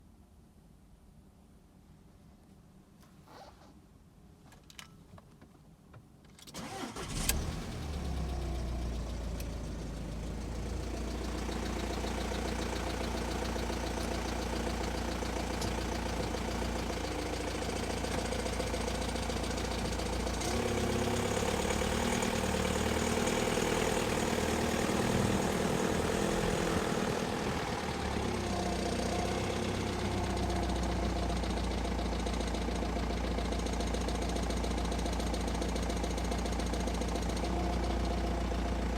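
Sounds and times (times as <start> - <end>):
diesel engine cranking and starting: 6.5 - 38.9
diesel engine idling with rattle: 6.9 - 38.9.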